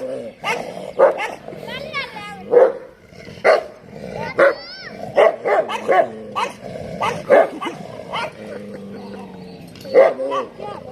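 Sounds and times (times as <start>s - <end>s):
dog growling low: 0.0s - 10.9s
dogs barking: 0.0s - 10.9s.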